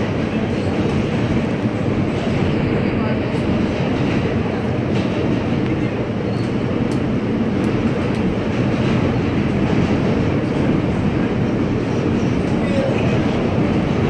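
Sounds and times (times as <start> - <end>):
subway car wheels rumbling on rail: 0.0 - 14.0.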